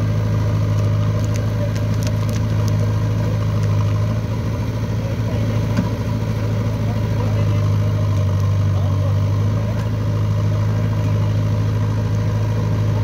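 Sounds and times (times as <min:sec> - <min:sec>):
diesel engines running: 0:00.0 - 0:13.0.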